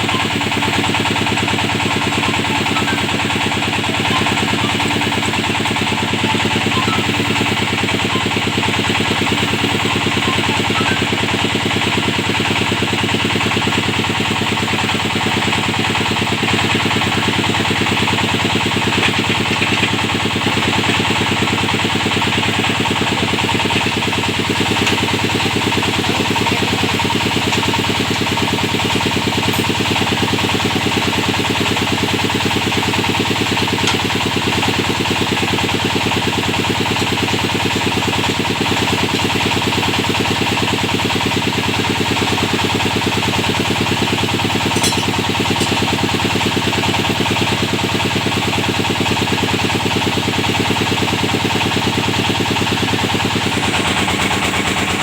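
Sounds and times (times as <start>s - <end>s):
drilling rig engine running: 0.0s - 55.0s.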